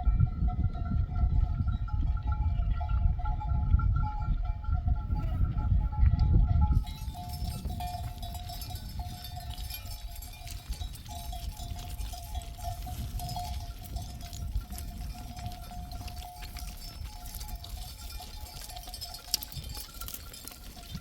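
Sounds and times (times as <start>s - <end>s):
sheep bells clinking: 0.0s - 21.0s.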